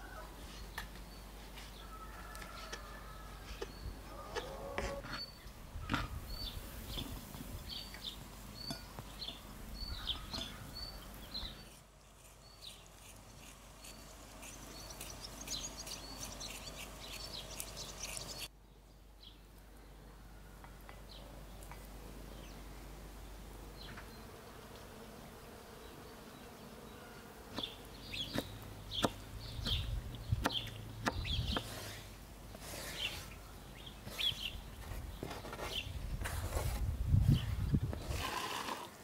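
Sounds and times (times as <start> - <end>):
birds chirping: 0.0 - 24.4, 25.5 - 31.8, 32.5 - 36.0.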